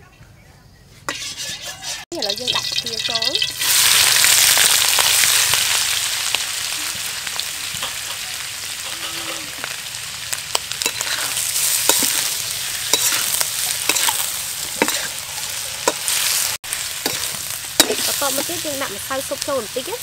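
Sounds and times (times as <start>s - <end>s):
spatula scraping a wok: 1.0s - 19.4s
shrimp sizzling in oil: 1.1s - 20.0s.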